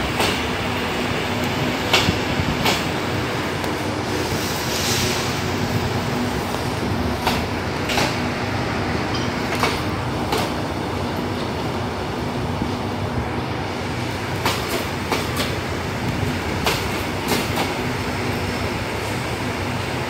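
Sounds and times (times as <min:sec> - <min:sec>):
train wheels clacking over rail joints: 0:00.0 - 0:11.7, 0:14.0 - 0:20.0
train coaches rumbling: 0:00.0 - 0:20.0.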